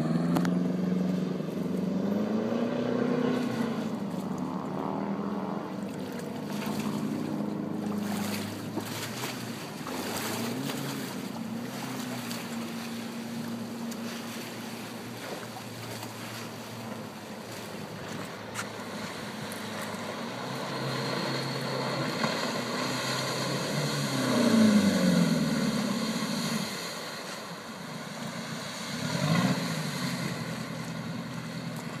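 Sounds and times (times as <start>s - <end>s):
jet boat engine: 0.0s - 32.0s.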